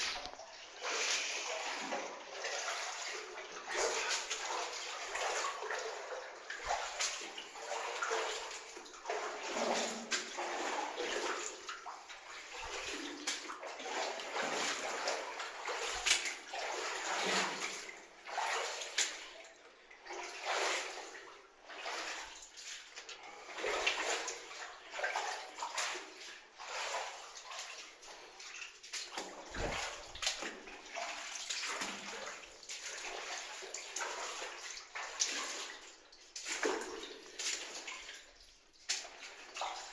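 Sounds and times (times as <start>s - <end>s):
feet wading through water: 0.0s - 39.9s.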